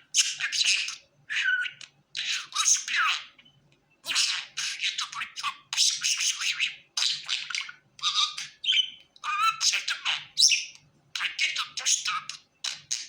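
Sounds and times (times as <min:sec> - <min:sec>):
budgerigar warbling and chattering: 0:00.1 - 0:13.0.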